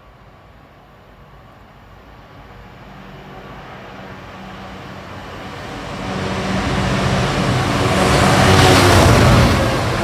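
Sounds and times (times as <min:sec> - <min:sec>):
diesel locomotive engine drone: 0:00.0 - 0:10.0
train rushing noise: 0:00.0 - 0:10.0.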